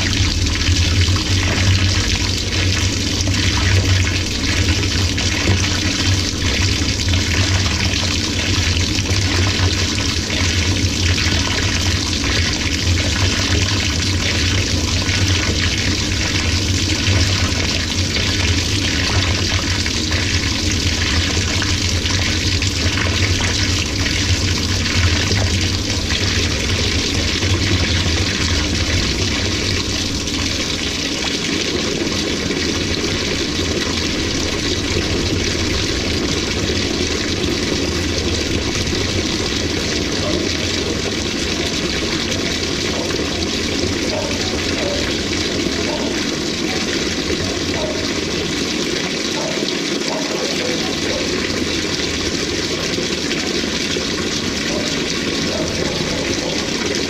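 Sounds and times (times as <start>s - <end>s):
water pouring into drum: 0.0s - 57.0s.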